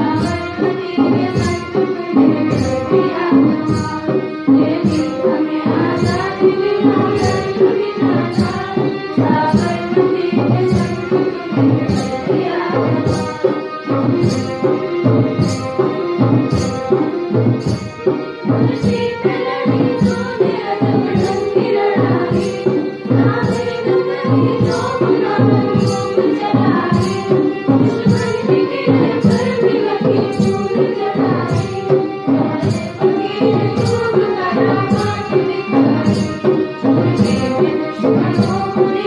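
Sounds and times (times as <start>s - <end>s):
girls singing together: 0.0s - 39.0s
harmonium: 0.0s - 39.0s
keyboard: 0.0s - 39.0s
percussion beat: 0.0s - 39.0s.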